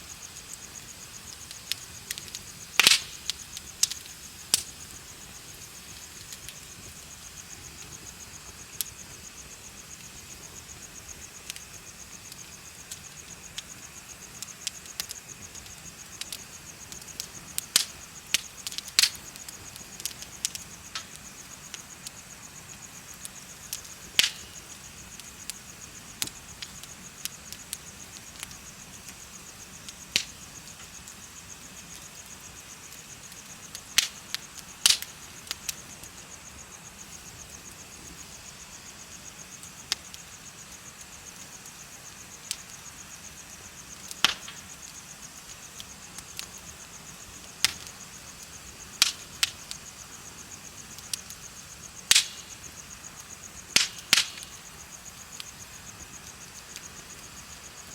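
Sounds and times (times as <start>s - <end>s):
bonfire crackling and popping: 0.0s - 57.9s
crickets chirping: 0.0s - 57.9s.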